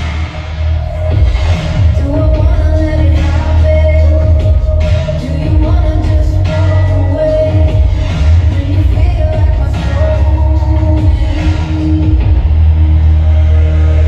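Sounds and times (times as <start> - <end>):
dubstep with heavy sub-bass: 0.0 - 14.0
sung vocal: 0.0 - 14.0.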